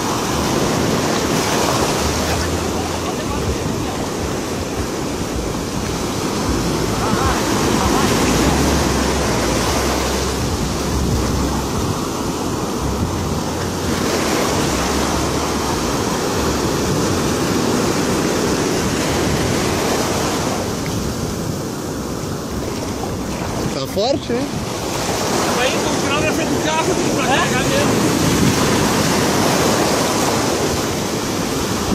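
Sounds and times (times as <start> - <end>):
ocean surf breaking on beach: 0.0 - 31.9
wind buffeting microphone: 0.0 - 31.9.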